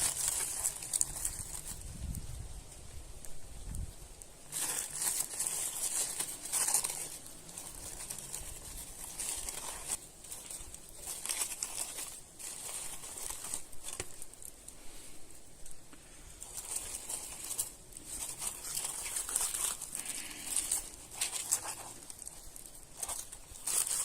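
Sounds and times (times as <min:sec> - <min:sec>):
material rustling and crinkling: 0:00.0 - 0:24.0.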